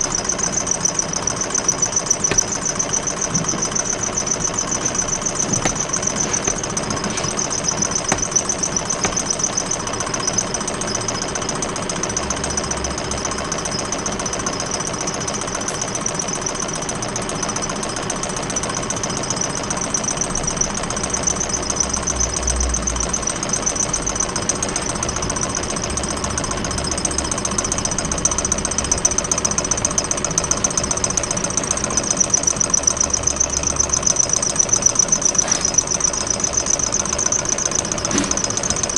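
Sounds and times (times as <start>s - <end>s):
engine mechanical chatter: 0.0s - 38.9s.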